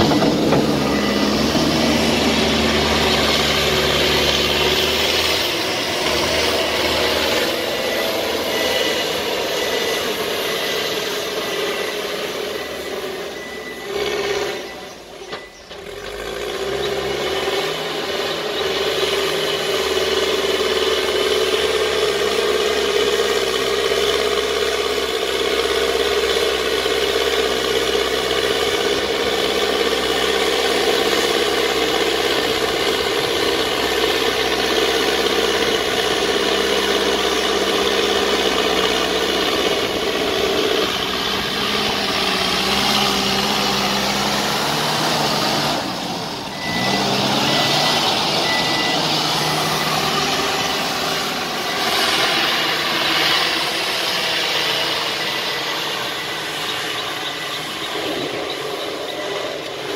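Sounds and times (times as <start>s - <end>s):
diesel engine running under load: 0.0s - 59.9s
reversing alarm beeping: 0.0s - 59.9s.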